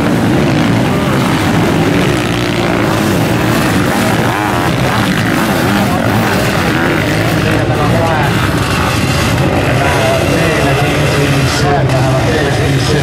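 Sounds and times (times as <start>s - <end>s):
motocross engines revving: 0.0s - 13.0s.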